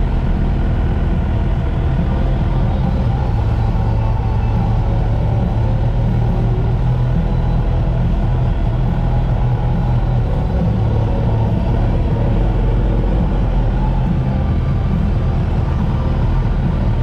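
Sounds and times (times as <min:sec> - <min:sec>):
motorcycle engine low drone: 0:00.0 - 0:17.0
road noise: 0:00.0 - 0:17.0.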